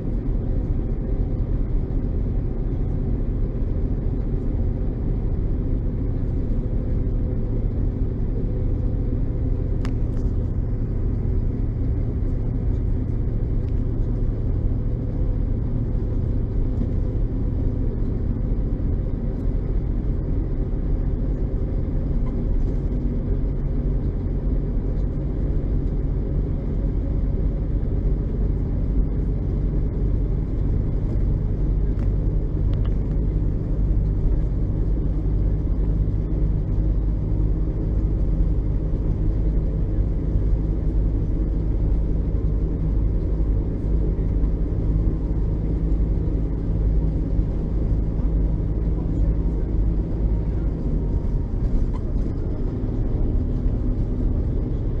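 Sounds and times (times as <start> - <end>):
bus engine running steadily: 0.0 - 55.0.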